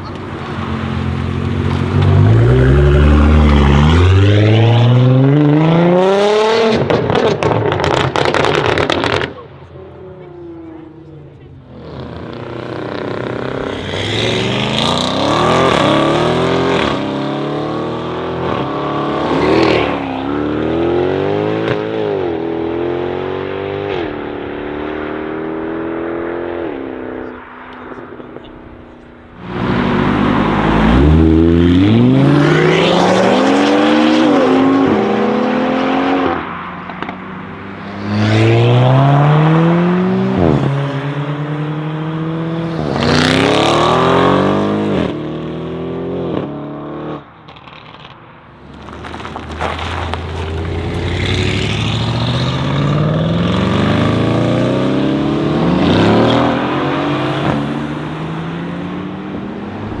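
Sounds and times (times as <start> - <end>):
car engine accelerating through gears: 0.0 - 60.0.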